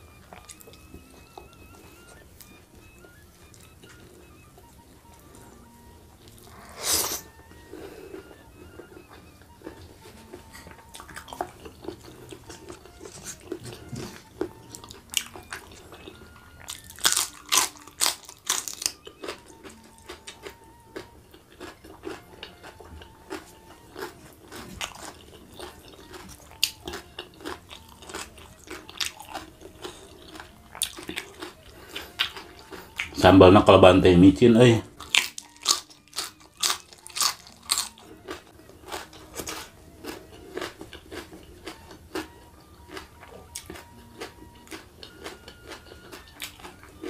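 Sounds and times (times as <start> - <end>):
chewing raw vegetables: 0.0 - 47.0.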